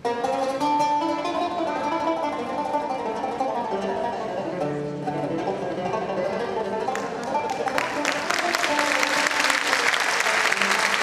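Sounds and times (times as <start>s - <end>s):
plucked zither melody: 0.0s - 9.8s.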